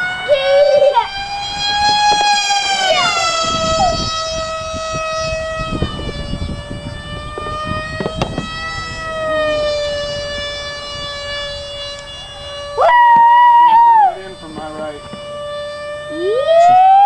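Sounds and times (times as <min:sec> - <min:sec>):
electric motor whine: 0:00.0 - 0:17.0
wind rumble on microphone: 0:00.0 - 0:17.0.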